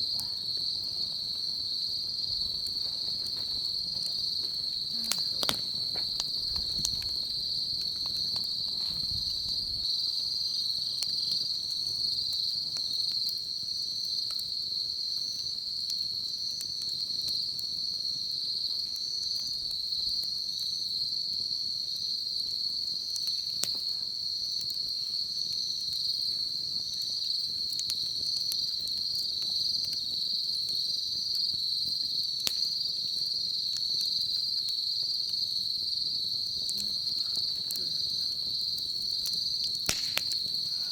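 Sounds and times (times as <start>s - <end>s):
bonfire wood popping: 0.0s - 40.9s
insect chorus: 0.0s - 40.9s.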